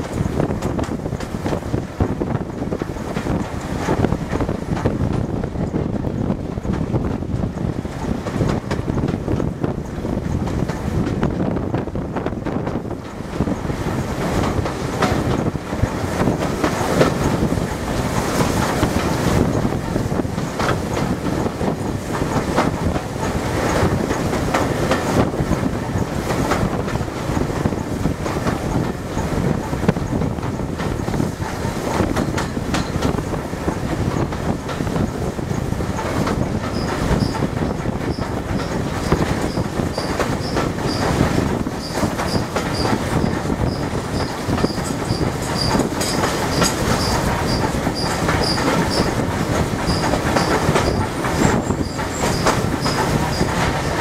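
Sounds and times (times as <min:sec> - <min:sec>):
train wheels rumbling: 0:00.0 - 0:54.0
wheels clicking over rail joints: 0:00.0 - 0:54.0.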